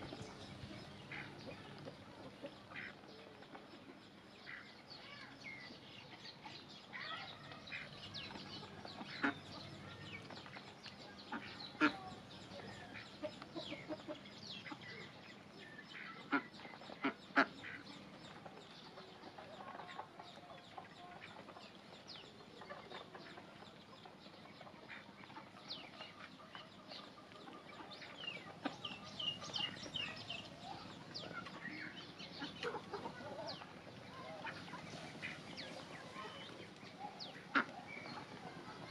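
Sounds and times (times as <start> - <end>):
bills dabbling and pecking in water: 0.0 - 38.9
chickens clucking: 0.0 - 38.9.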